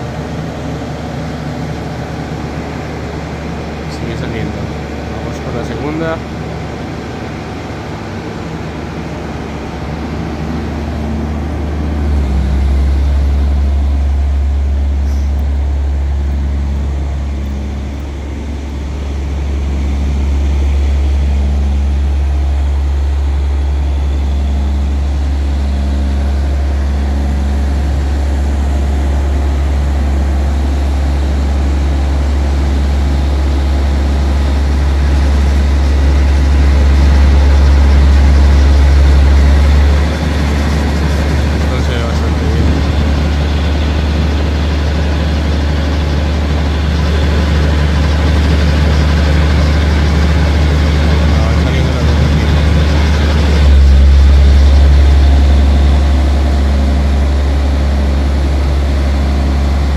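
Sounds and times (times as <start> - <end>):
crane diesel engine droning: 0.0 - 59.9.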